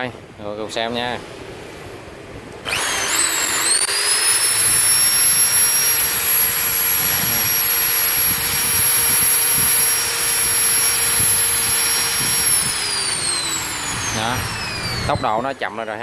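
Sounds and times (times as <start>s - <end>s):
hammer drill motor whining: 2.6s - 16.0s.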